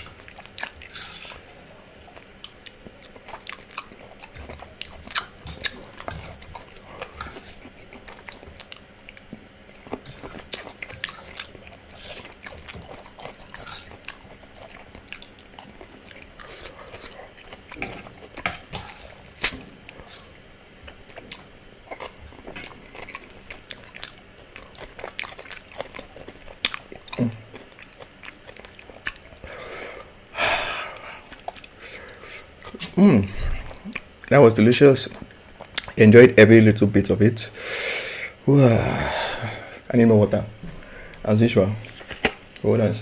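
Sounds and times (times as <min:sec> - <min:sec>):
chewing and wet mouth sounds: 0:00.0 - 0:36.1.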